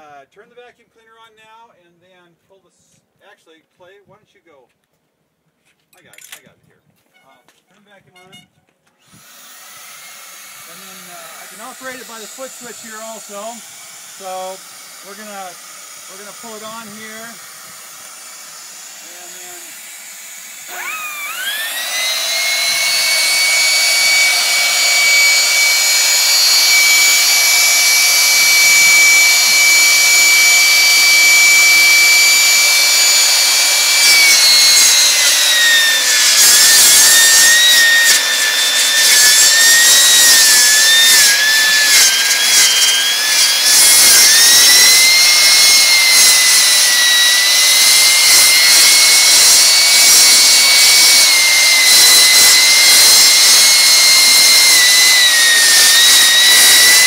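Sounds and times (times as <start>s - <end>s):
circular saw motor whine: 9.0s - 57.0s
saw blade rasping through wood: 9.1s - 57.0s.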